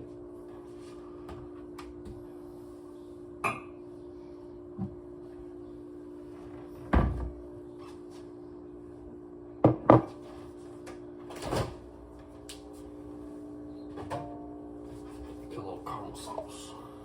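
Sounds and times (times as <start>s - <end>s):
coffee machine humming: 0.0s - 17.0s.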